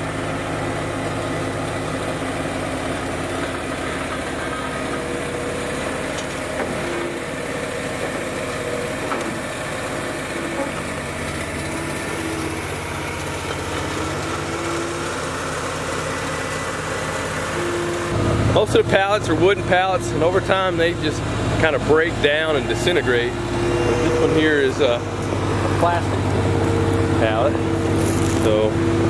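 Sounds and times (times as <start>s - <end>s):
skid steer diesel engine running: 0.0s - 29.0s.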